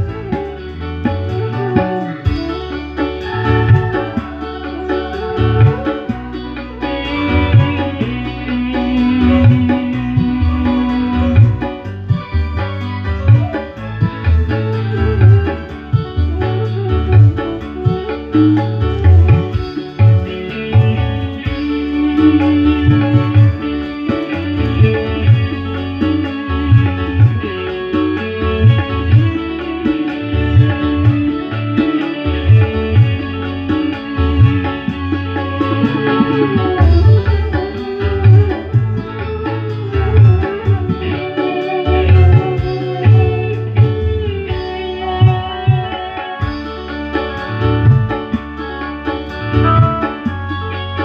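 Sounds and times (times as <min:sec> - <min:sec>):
heavy bass notes: 0:00.0 - 0:51.0
loud guitar music: 0:00.0 - 0:51.0.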